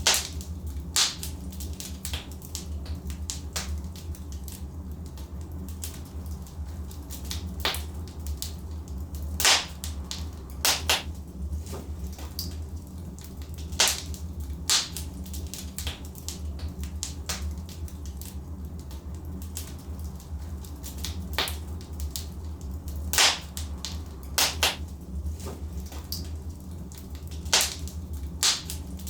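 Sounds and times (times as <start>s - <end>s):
sharp pops from burning logs: 0.0s - 29.0s
steady low rumble: 0.0s - 29.0s
wood fire crackling: 0.0s - 29.0s.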